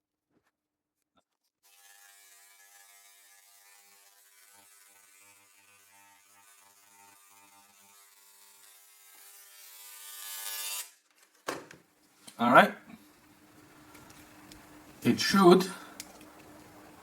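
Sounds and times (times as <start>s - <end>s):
ultrasonic knife humming and buzzing: 1.7s - 10.9s, 12.3s - 17.0s.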